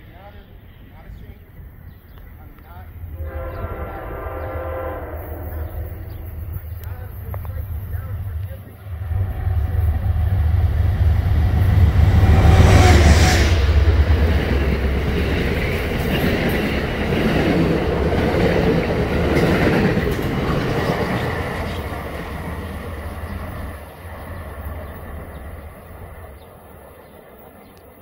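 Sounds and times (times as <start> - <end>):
train wheels rolling on rails: 2.1 - 28.0
locomotive engine passing: 2.2 - 28.0.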